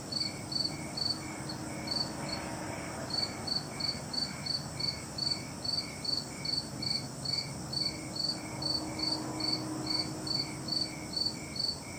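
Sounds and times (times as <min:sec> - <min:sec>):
insect chirping: 0:00.0 - 0:11.9.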